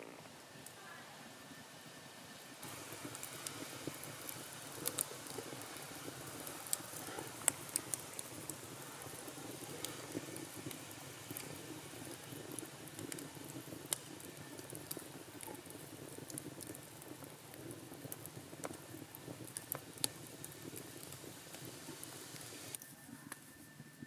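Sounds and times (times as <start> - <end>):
fire popping: 0.0 - 0.8, 2.6 - 23.4
campfire crackling: 0.0 - 24.0.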